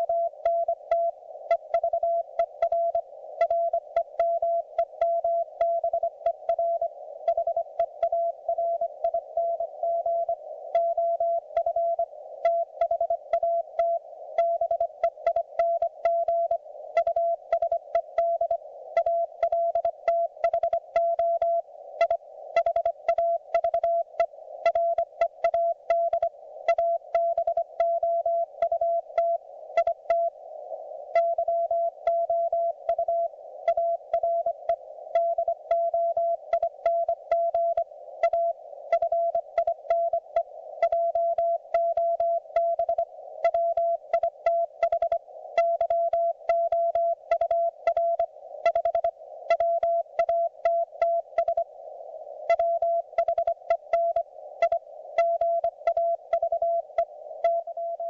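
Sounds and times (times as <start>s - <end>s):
receiver hiss: 0.0s - 58.0s.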